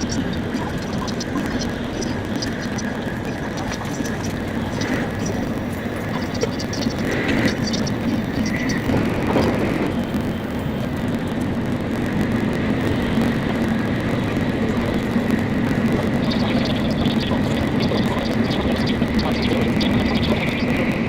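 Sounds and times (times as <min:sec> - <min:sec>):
train running noise inside car: 0:00.0 - 0:21.0.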